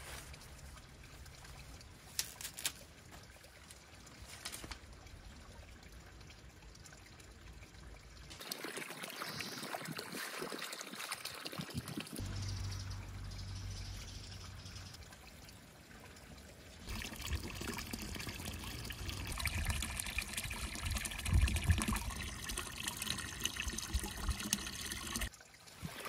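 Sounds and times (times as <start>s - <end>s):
water splashing into pond: 0.0s - 26.0s
water trickling and pouring: 0.0s - 26.0s.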